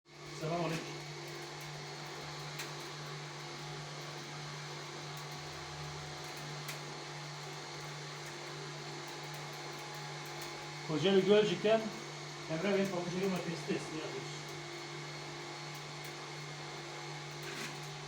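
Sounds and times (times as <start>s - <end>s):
cotton candy machine motor hum: 0.1s - 18.0s.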